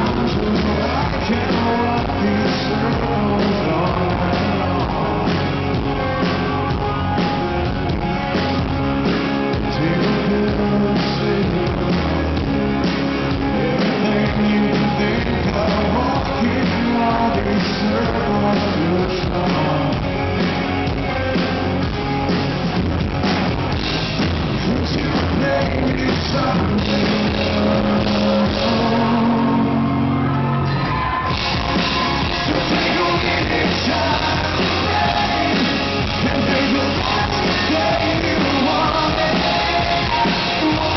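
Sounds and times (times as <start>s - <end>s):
man singing: 0.0s - 7.8s, 9.0s - 12.6s, 13.2s - 20.5s, 24.6s - 30.2s, 31.3s - 40.9s
drums: 0.0s - 40.9s
electric guitars: 0.0s - 40.9s.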